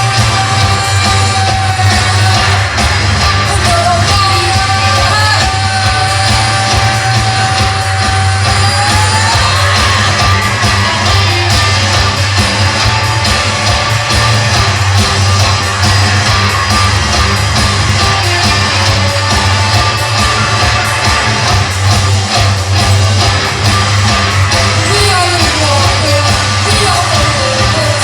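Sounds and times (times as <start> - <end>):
loud rock music: 0.0 - 28.0
yelled vocals: 0.0 - 28.0.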